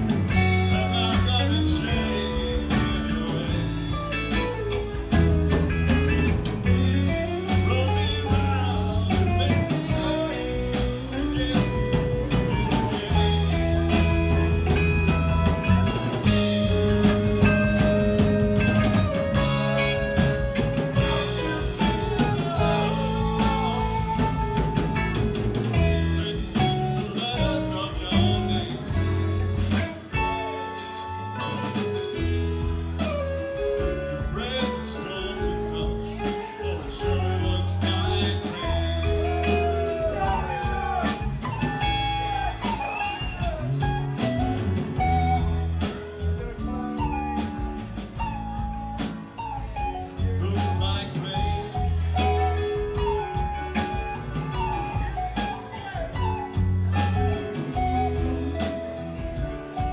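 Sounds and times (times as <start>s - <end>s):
bass guitar: 0.0s - 59.9s
drum kit: 0.0s - 59.9s
electric guitar lead: 0.0s - 59.9s.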